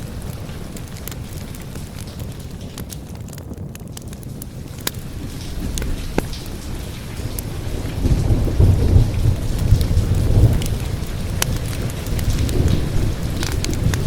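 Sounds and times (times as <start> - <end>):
steady rain: 0.0 - 14.0
thunder rumbling: 0.0 - 14.0
wood fire crackling: 0.0 - 14.0.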